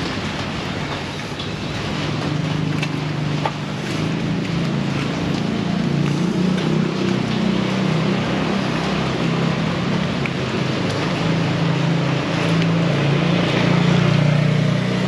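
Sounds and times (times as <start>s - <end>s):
heavy rain pouring: 0.0s - 15.0s
vehicle engine hum: 0.0s - 15.0s.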